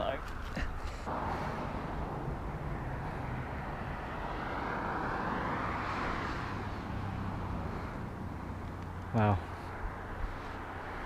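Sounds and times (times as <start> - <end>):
passing vehicle engine and tyres: 1.0 - 11.0.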